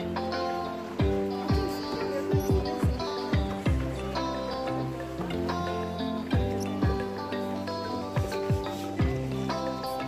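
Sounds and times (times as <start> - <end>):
held chords: 0.0 - 10.0.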